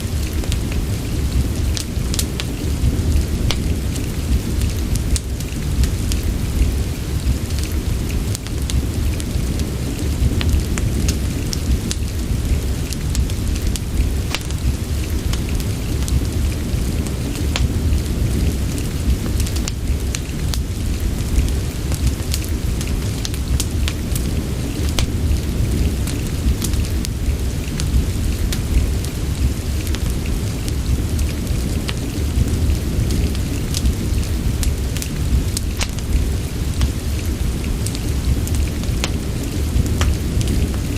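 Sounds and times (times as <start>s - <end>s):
deep rumble: 0.0s - 40.9s
steady rain: 0.0s - 40.9s
wood fire crackling: 0.0s - 40.9s.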